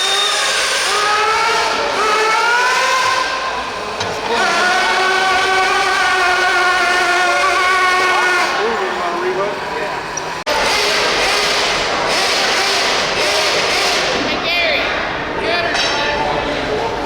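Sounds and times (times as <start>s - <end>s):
motor whining under load: 0.0s - 14.2s.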